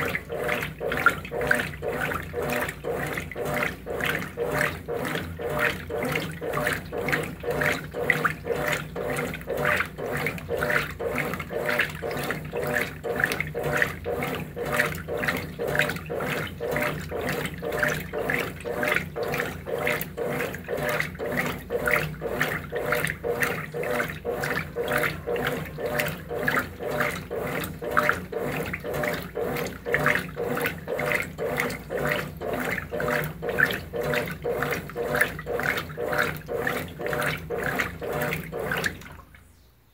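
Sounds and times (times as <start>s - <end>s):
washing machine motor hum: 0.0s - 39.5s
washing machine water sloshing: 0.0s - 39.9s.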